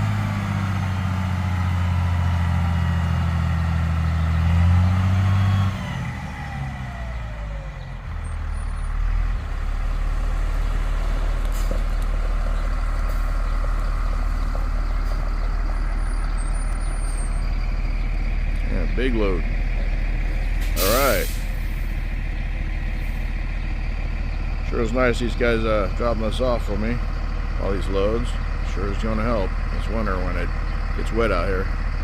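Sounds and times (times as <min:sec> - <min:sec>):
truck engine revving and idling: 0:00.0 - 0:32.0.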